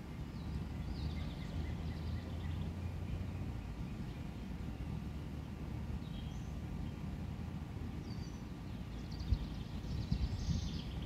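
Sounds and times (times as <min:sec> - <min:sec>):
wind rumbling on microphone: 0:00.0 - 0:11.0
small bird chirping: 0:00.1 - 0:05.0, 0:06.0 - 0:07.0, 0:08.0 - 0:11.0.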